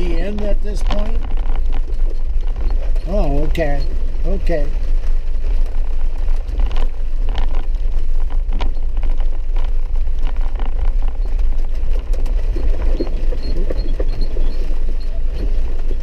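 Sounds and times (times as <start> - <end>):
vehicle engine and road rumble: 0.0 - 16.0
vehicle knocks and rattles: 0.0 - 16.0.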